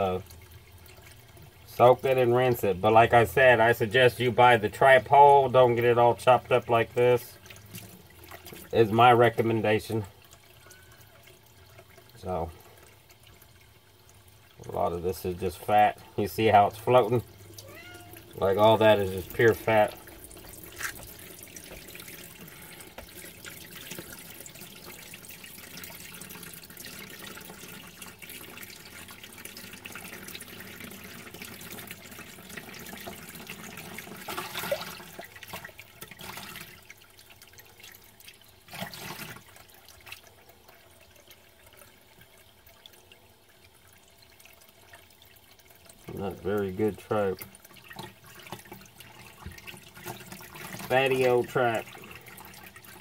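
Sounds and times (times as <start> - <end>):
faucet water splashing into bowl: 4.9 - 53.0.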